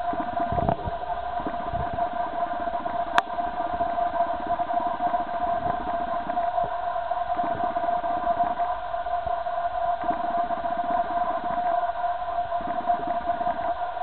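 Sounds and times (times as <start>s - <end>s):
low pulsing rumble: 0.0s - 14.0s
steady mechanical hum: 0.0s - 14.0s.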